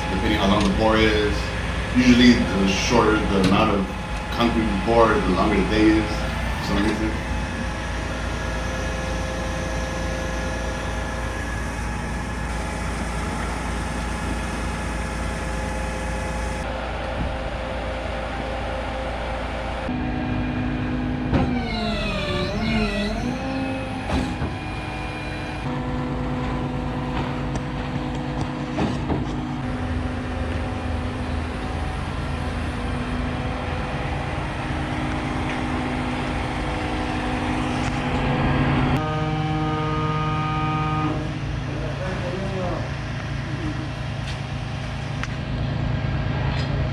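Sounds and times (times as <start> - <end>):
heavy truck engine running: 0.0 - 46.9.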